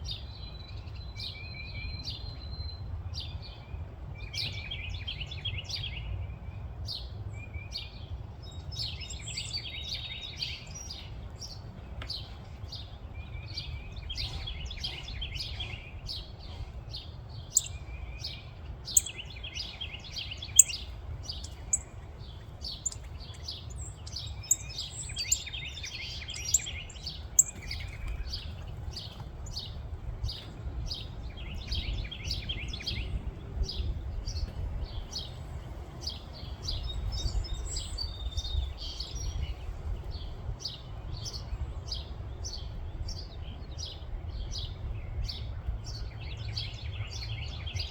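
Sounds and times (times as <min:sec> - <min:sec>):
small songbirds chirping: 0:00.0 - 0:47.9.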